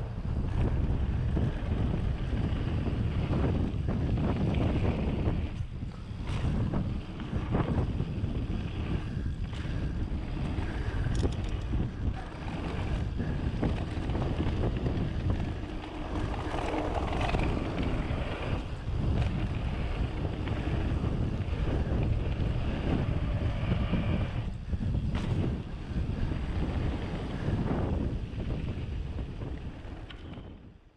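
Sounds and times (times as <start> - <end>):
bike tyres rumbling on gravel: 0.0 - 30.9
wind buffeting microphone: 0.0 - 30.9
bike rattling over stones: 0.2 - 30.6.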